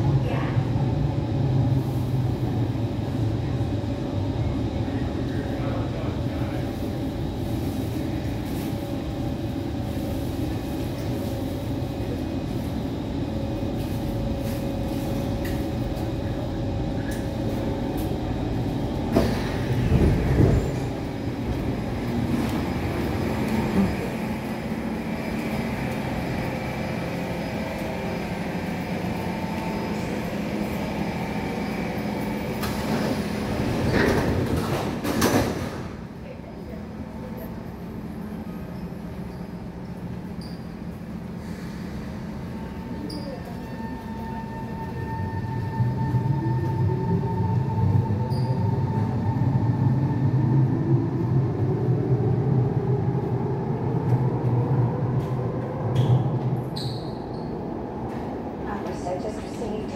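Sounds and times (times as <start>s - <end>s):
train rolling noise: 0.0s - 59.9s.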